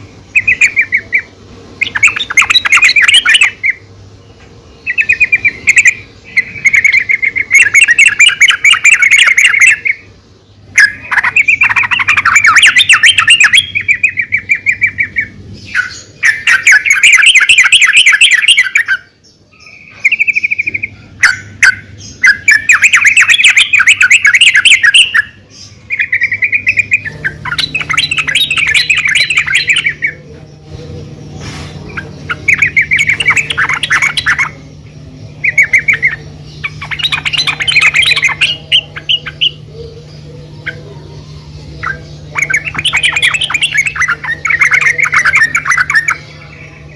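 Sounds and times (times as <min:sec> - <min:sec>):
bird rapid chattering calls: 0:00.0 - 0:10.1, 0:10.7 - 0:46.9.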